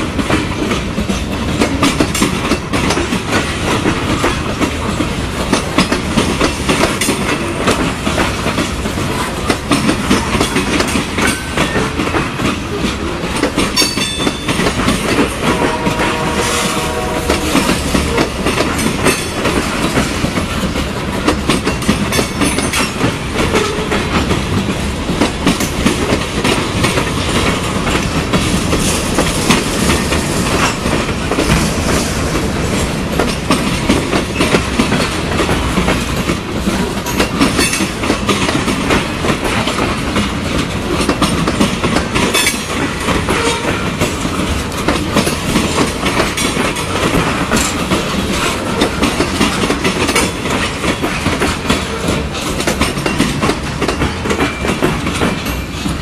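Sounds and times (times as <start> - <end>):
freight train rumbling past: 0.0 - 56.0
wheels clacking over rail joints: 0.0 - 56.0.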